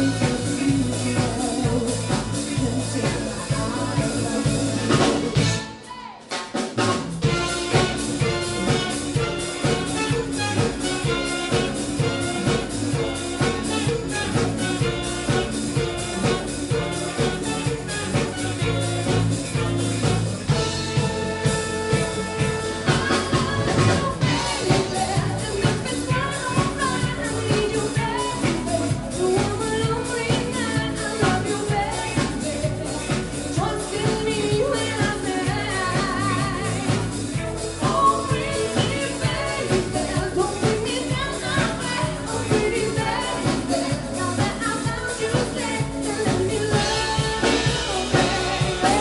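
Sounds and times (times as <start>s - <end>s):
drum kit and congas beat: 0.0s - 49.0s
guitar keyboard and horns: 0.0s - 49.0s
wavering lead melody: 7.2s - 49.0s.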